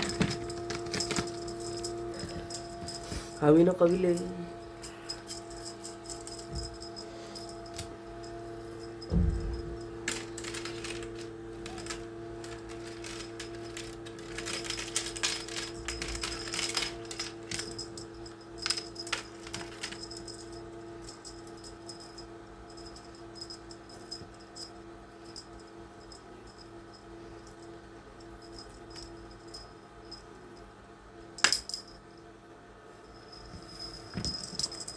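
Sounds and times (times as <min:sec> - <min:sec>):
light metallic jingling and clicking: 0:00.0 - 0:30.3, 0:33.0 - 0:34.9
steady low hum: 0:00.0 - 0:34.9.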